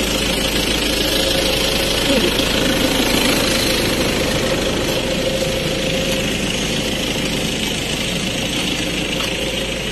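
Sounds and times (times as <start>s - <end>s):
steady engine hum: 0.0s - 9.9s.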